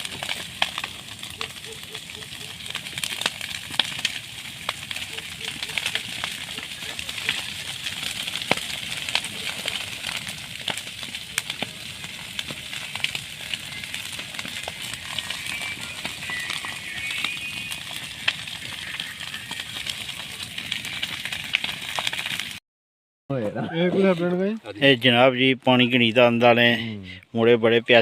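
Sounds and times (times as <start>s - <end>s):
undergrowth fire crackling: 0.0s - 22.6s.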